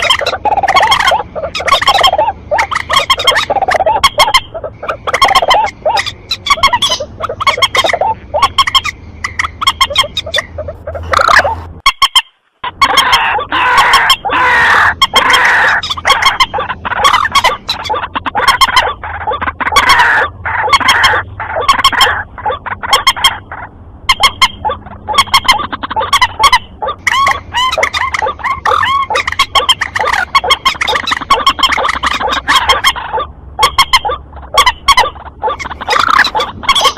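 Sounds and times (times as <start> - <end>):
waterbird calls: 0.0 - 36.9.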